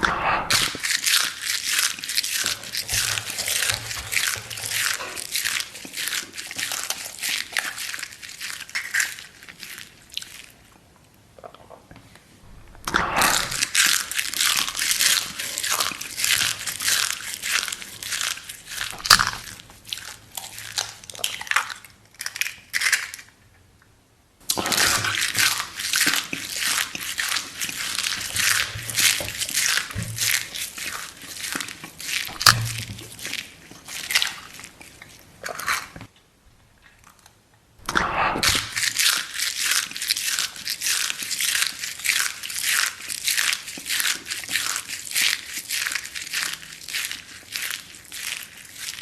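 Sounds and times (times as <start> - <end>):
crunchy chewing: 0.0 - 10.8, 11.4 - 23.3, 24.4 - 36.2, 36.8 - 49.0.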